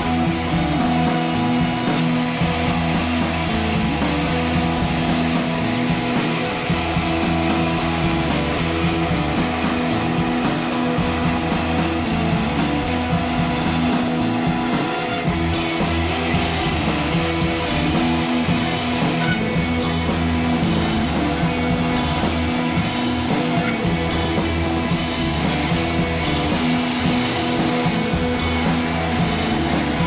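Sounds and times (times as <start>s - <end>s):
rock music with guitar: 0.0s - 30.0s.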